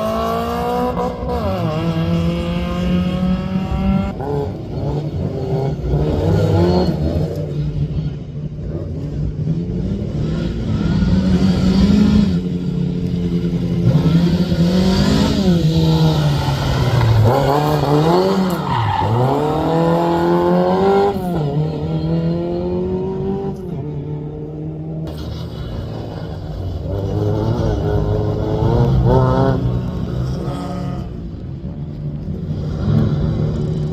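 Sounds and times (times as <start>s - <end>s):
rally car engine revving: 0.0s - 33.9s.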